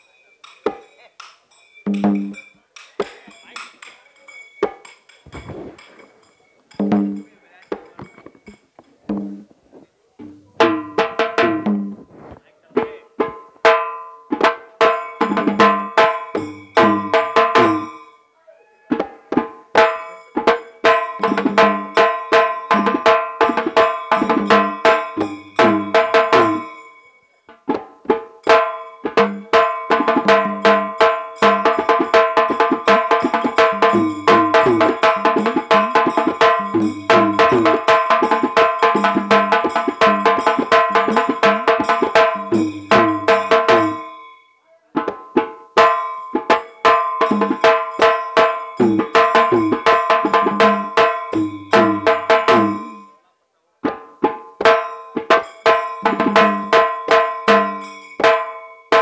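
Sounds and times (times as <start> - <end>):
hand drums playing: 0.5 - 3.9, 4.6 - 18.0, 18.9 - 26.8, 27.5 - 44.2, 44.9 - 53.1, 53.9 - 59.0.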